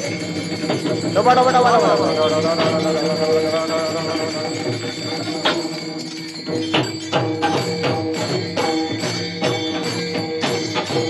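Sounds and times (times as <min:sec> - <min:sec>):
hand cymbals striking a beat: 0:00.0 - 0:11.0.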